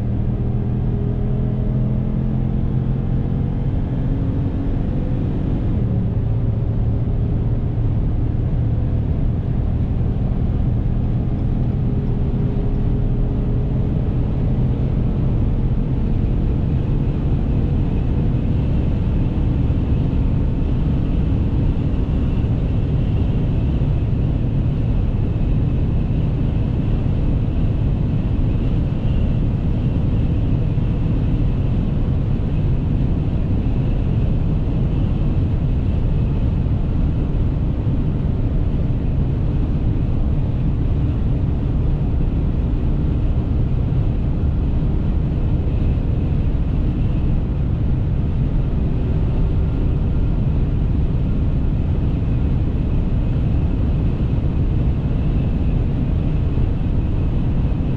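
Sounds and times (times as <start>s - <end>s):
car interior road drone: 0.0s - 57.9s.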